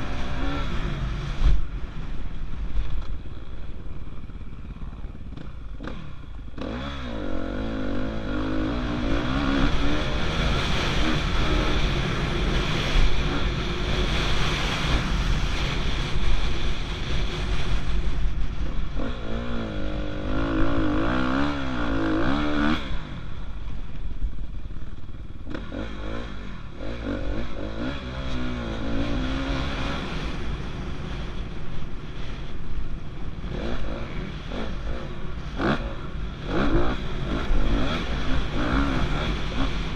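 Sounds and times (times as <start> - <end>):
dirt bike engine revving: 0.0 - 1.7, 4.1 - 23.4, 24.9 - 32.5, 33.3 - 39.9.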